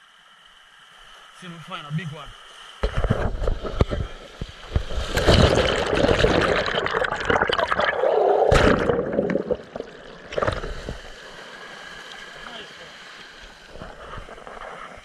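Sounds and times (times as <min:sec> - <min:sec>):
surf washing over rocks: 0:01.2 - 0:15.0
water splash: 0:02.8 - 0:15.0.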